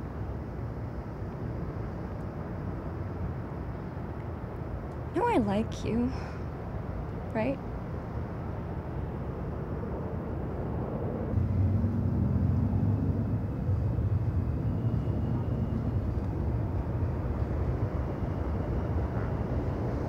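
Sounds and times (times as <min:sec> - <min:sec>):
distant vehicles rumbling: 0:01.7 - 0:20.0.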